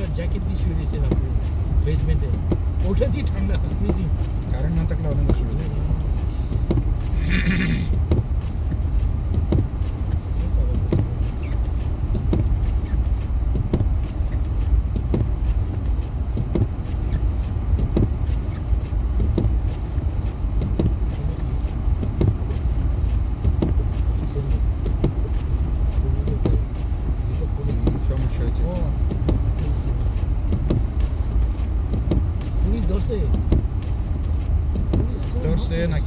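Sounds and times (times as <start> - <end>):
truck engine and tyres rumbling: 0.0 - 36.0
soft knocking: 0.9 - 26.9, 27.6 - 35.8.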